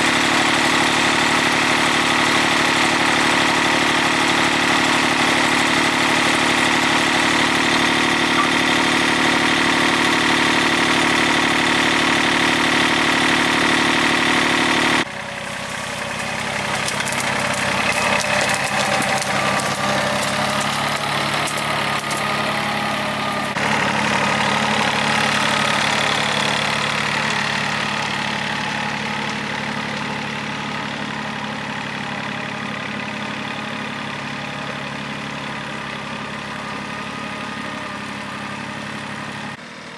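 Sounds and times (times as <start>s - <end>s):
farm machine engine running: 0.0s - 39.9s.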